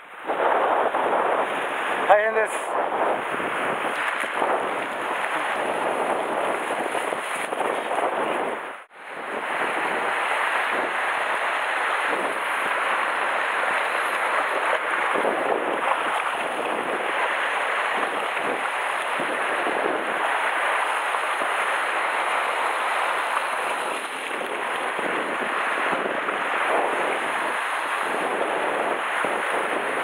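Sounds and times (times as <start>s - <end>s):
strong wind: 0.0s - 30.0s
sea surf breaking over rocks: 0.1s - 30.0s.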